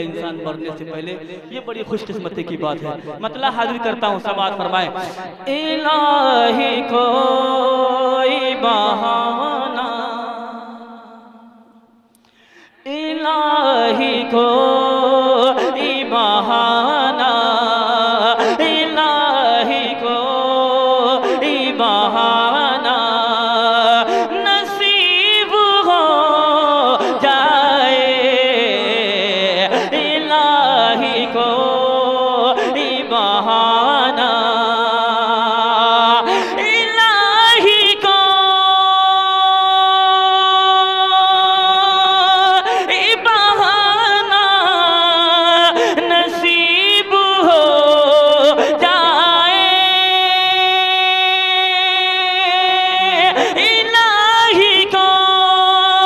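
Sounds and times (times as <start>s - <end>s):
man singing unaccompanied: 0.0s - 10.6s, 12.9s - 56.0s.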